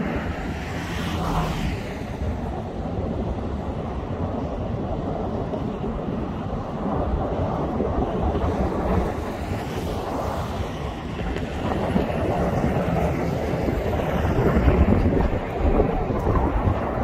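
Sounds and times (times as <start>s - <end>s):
jet engines rumbling: 0.0s - 17.0s
wind buffeting microphone: 0.0s - 17.0s.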